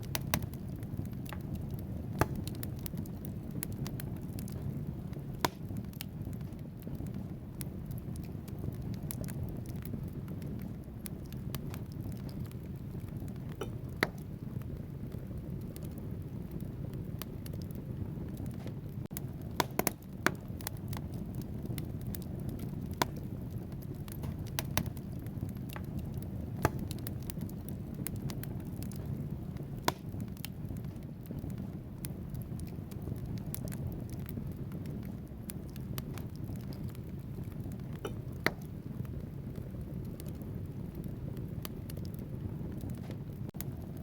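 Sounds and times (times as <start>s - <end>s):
fire rushing: 0.0s - 44.0s
logs crackling and popping: 0.0s - 44.0s.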